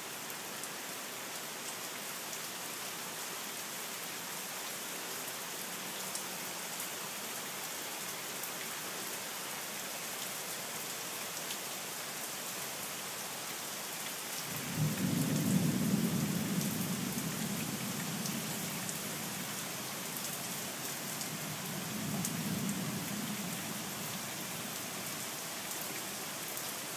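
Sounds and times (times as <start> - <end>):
rain on wooden deck and plants: 0.0 - 26.9.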